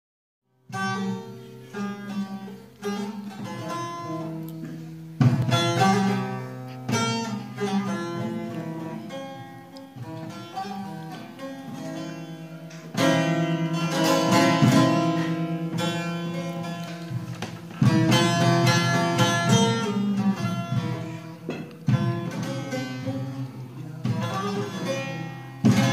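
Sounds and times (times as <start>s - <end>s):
long-necked lute picked melody: 0.6s - 25.9s
strummed lute passages: 0.6s - 25.9s.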